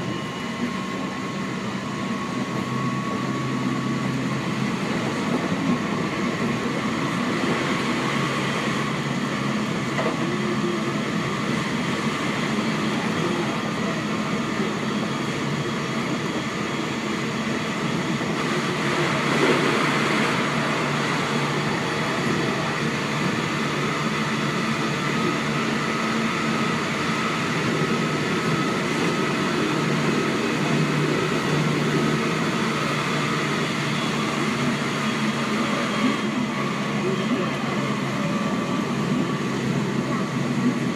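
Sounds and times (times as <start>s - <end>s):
train wheels rolling on rail: 0.0s - 40.9s.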